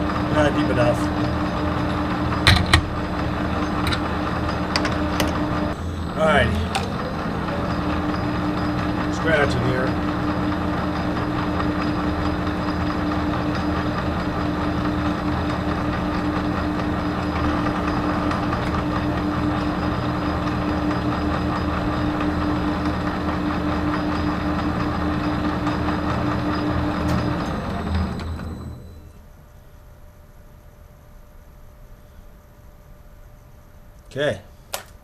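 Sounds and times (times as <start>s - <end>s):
lathe tool cutting metal: 0.0s - 28.7s
metal lathe humming: 0.0s - 29.1s.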